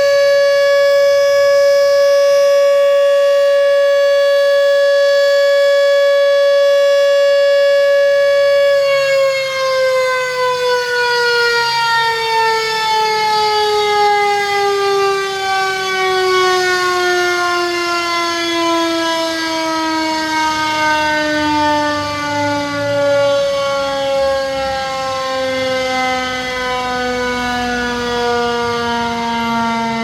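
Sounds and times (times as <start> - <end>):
siren falling in pitch: 0.0 - 30.0.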